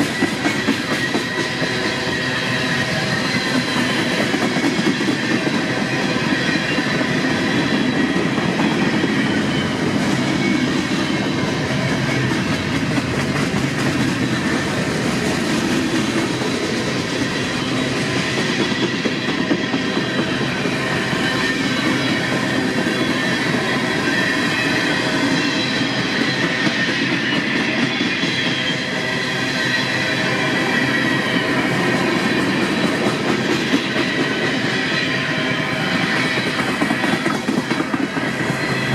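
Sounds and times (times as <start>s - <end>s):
freight train rolling on rails: 0.0s - 38.9s.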